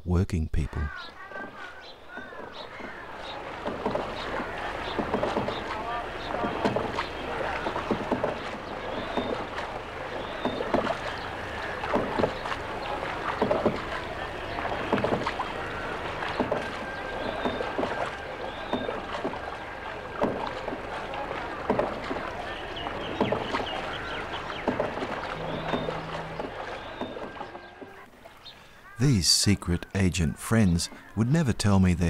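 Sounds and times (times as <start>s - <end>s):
paddle dipping into water: 1.1s - 32.0s.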